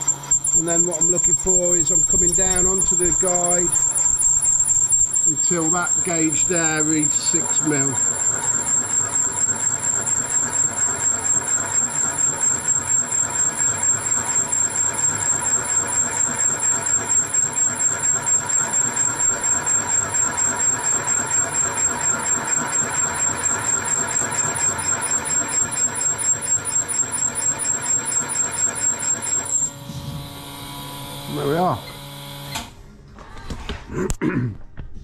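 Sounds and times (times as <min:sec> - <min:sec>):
cutting machine whine and pulsing: 0:00.0 - 0:32.8.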